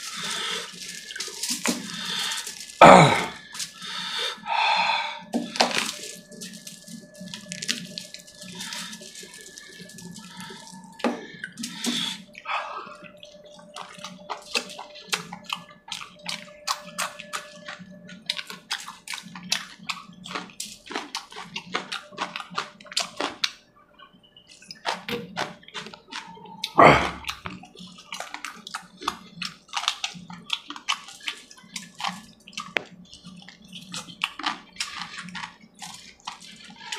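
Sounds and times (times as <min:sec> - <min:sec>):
wet chewing and lip smacking: 0:05.2 - 0:23.6, 0:24.6 - 0:36.9.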